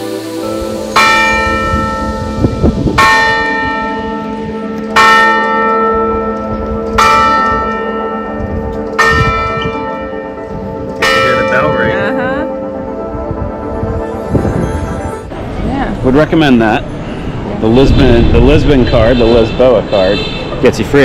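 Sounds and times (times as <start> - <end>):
large bell tolling: 0.4 - 19.6.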